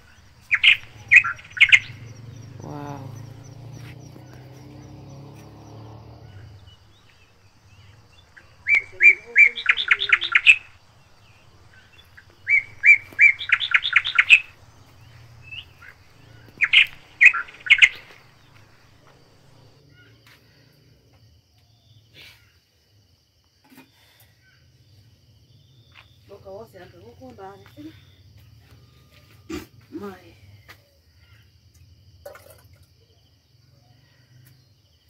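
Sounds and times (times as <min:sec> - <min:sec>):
songbird singing: 0:00.0 - 0:22.7, 0:24.4 - 0:35.0.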